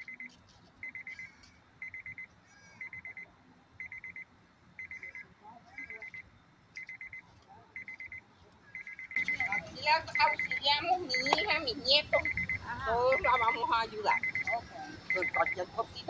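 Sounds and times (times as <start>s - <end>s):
car warning chime beeps: 0.0s - 5.3s, 5.9s - 16.0s.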